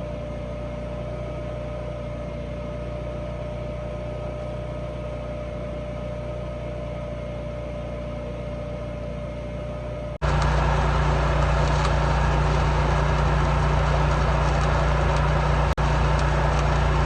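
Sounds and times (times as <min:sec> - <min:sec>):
welder engine droning: 0:00.0 - 0:17.0.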